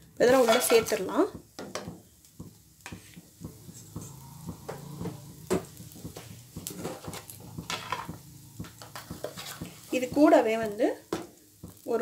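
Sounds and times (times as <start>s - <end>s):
spices frying in hot oil: 0.0s - 12.0s.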